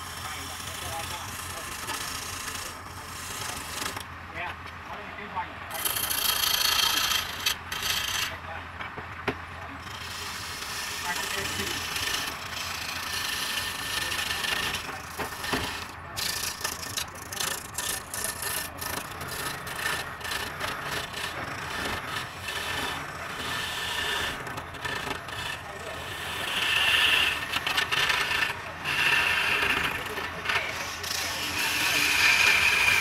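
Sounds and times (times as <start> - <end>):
chisel scraping spinning wood: 0.0 - 4.1, 5.6 - 33.0.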